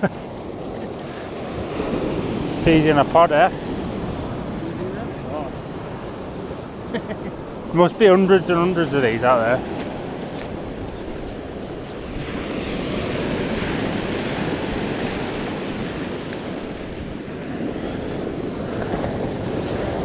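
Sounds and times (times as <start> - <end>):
waves washing onto beach: 0.0 - 20.0
wind buffeting microphone: 0.0 - 20.0.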